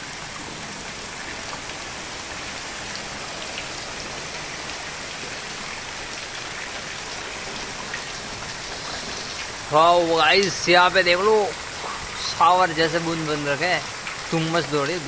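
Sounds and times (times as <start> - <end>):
heavy rain hissing: 0.0 - 15.0
water pouring off roof eaves: 0.0 - 15.0.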